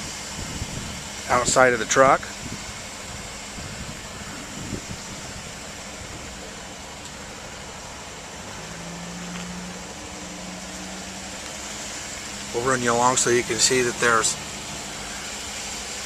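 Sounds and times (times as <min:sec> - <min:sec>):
pickup truck idling: 0:00.0 - 0:16.0.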